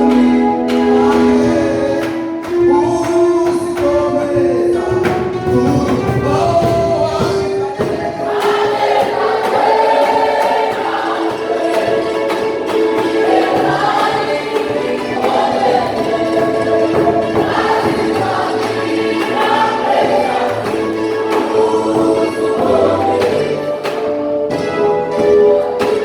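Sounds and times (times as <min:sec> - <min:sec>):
band accompaniment: 0:00.0 - 0:26.0
choir singing gospel song: 0:00.0 - 0:26.0
percussion hits: 0:00.0 - 0:26.0.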